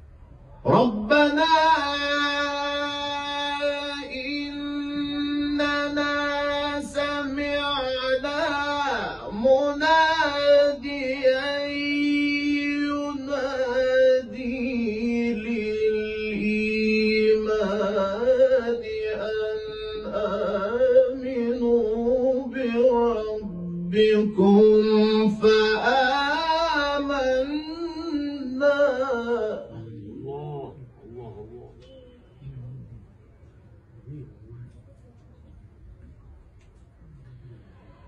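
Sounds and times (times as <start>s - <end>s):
man chanting melodically: 0.6s - 33.2s, 33.9s - 34.8s.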